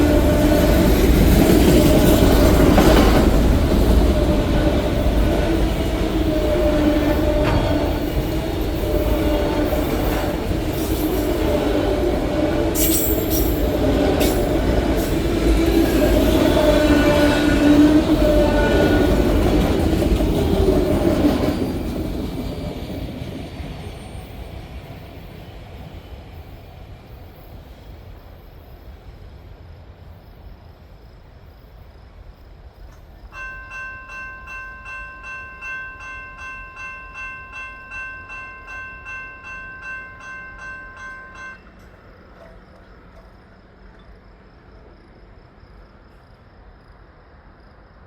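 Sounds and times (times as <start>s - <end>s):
freight train wheel squeal: 0.0s - 44.4s.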